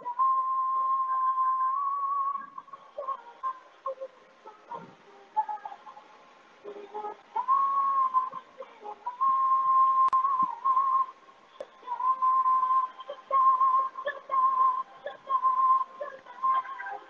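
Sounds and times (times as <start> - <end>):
faint musical accompaniment: 0.0 - 17.0.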